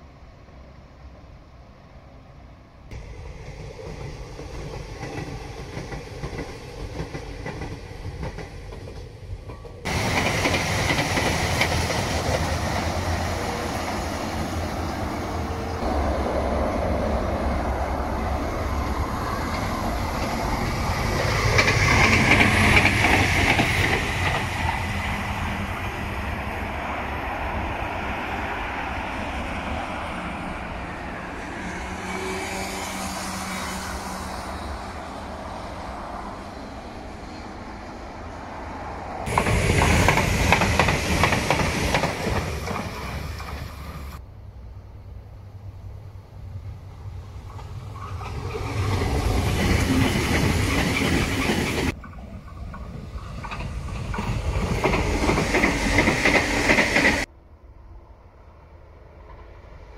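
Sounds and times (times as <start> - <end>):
motorway traffic: 0.0 - 59.9
trains with wheel clatter: 0.0 - 59.9.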